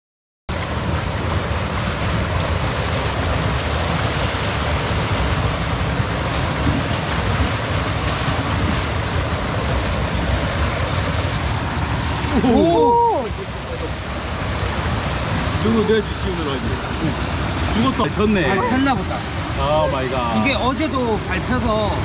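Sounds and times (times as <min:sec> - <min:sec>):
river water pouring over weir: 0:00.5 - 0:22.0.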